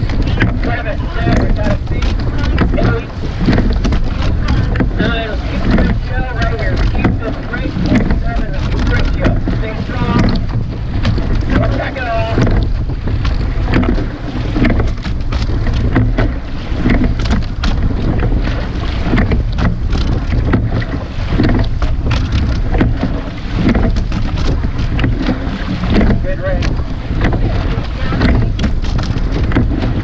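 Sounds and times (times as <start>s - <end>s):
oar blades splashing: 0.0s - 30.0s
oars knocking: 0.0s - 30.0s
water rushing along hull: 0.0s - 30.0s
wind buffeting microphone: 0.0s - 30.0s.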